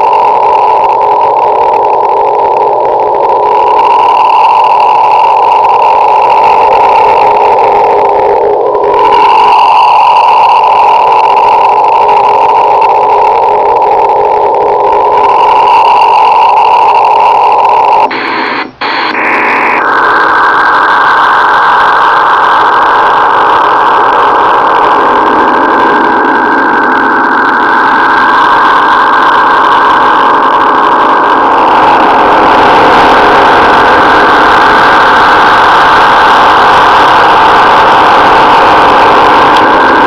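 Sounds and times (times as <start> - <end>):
rushing radio noise signal: 0.0 - 40.0.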